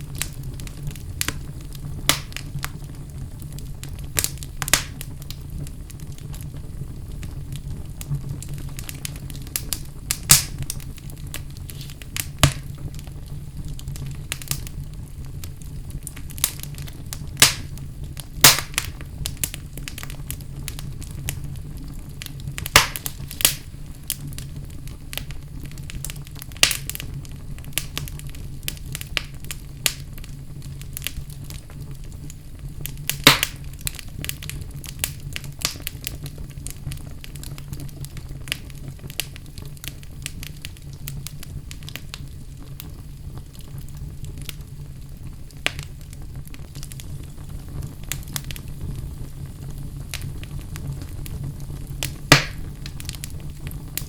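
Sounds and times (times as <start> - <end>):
fire popping: 0.0 - 54.0
wood fire crackling: 0.0 - 54.0.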